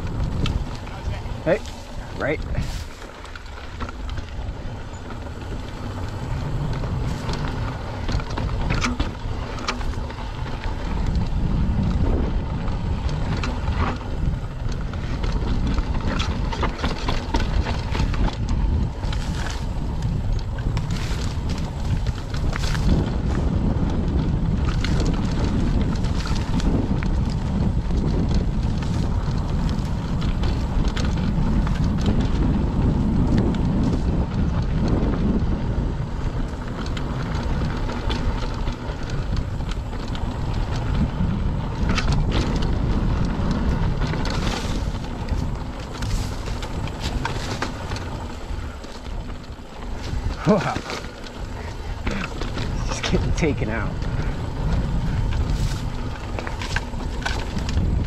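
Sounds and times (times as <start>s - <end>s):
bike clicks and rattles: 0.0s - 58.0s
bike tyres rolling on dirt: 0.0s - 58.0s
wind rushing over microphone: 0.0s - 58.0s.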